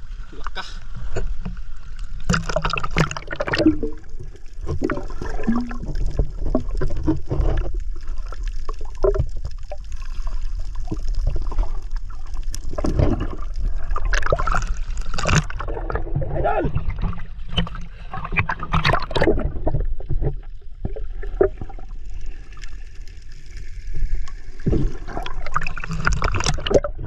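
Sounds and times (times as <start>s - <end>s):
seawater sloshing and gurgling: 0.0s - 27.0s.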